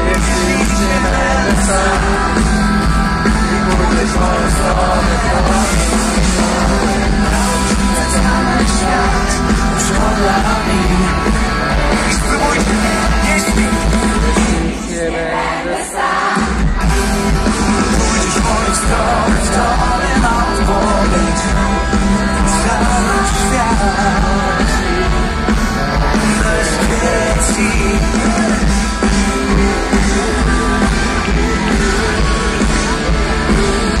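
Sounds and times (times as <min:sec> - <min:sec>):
live pop-rock band with singing: 0:00.0 - 0:34.0.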